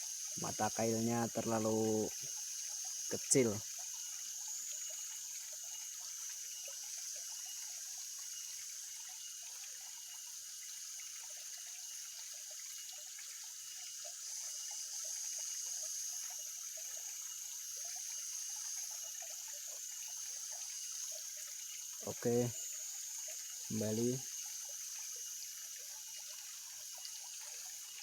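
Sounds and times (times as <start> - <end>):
water trickling and bubbling: 0.0 - 28.0.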